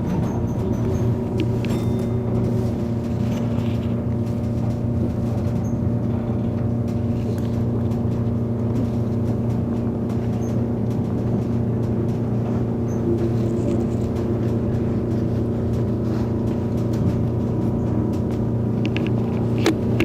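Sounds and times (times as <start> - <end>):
electric motor hum: 0.0 - 20.0
train running gear rumble: 0.0 - 20.0.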